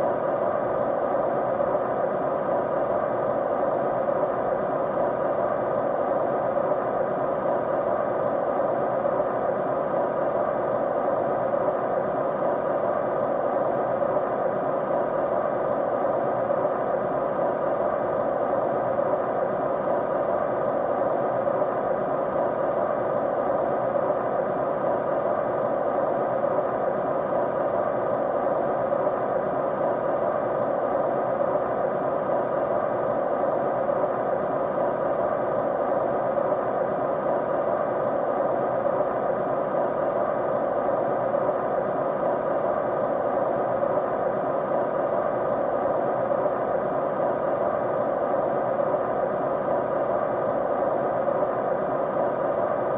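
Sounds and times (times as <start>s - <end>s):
broad white noise hiss: 0.0s - 52.9s
faint steady tones: 0.0s - 52.9s.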